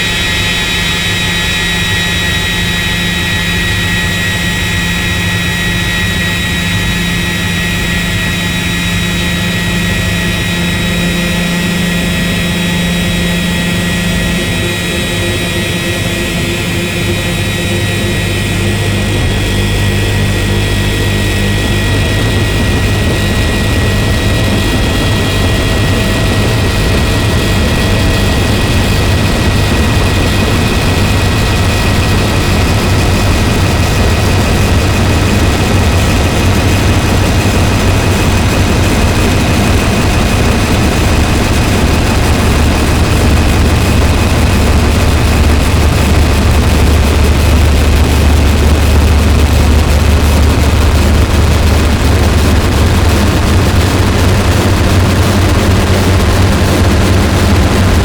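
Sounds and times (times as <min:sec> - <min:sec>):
distorted noise drone: 0:00.0 - 0:58.0.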